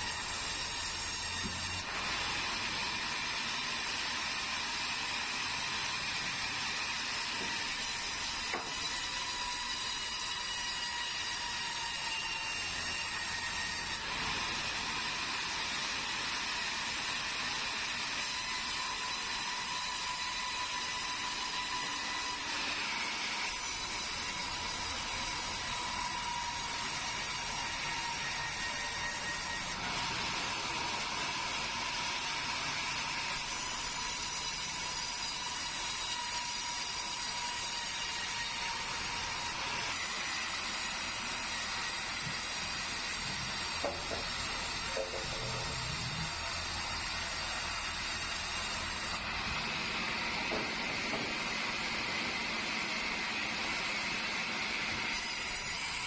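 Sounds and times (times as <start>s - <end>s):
sawmill saw whining through wood: 0.0s - 56.0s.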